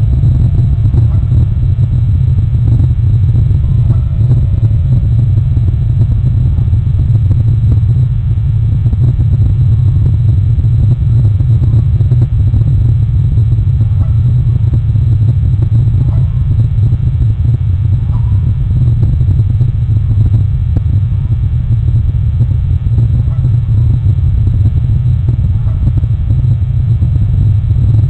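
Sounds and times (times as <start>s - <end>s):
loud steady low rumble: 0.0s - 28.0s.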